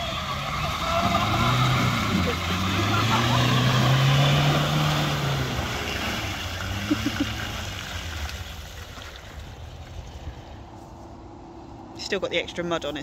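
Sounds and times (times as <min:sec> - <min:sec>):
car engine driving through mud: 0:00.0 - 0:10.6.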